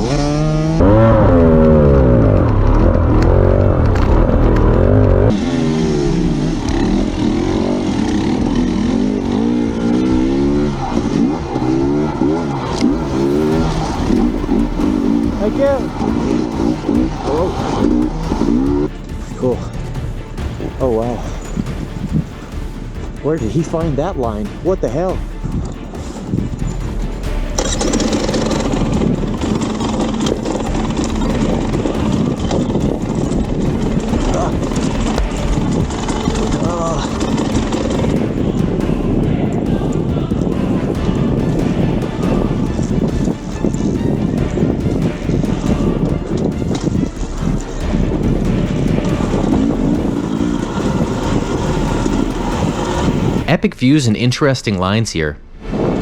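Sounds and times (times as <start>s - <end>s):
dirt bike engine revving: 0.0s - 53.6s.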